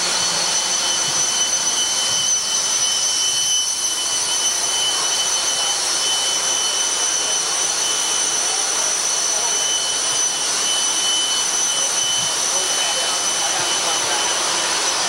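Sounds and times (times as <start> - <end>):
high-pitched whine: 0.0 - 15.0
loud machinery noise: 0.0 - 15.0.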